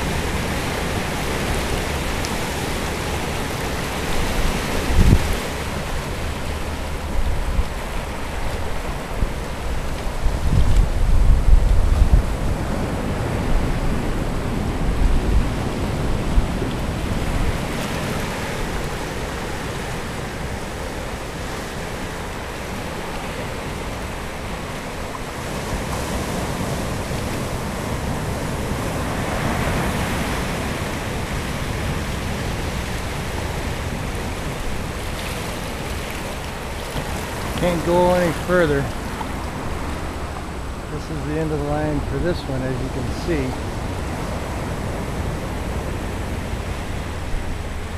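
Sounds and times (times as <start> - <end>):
ocean surf breaking over rocks: 0.0 - 47.9
wind rumble on microphone: 0.0 - 47.9.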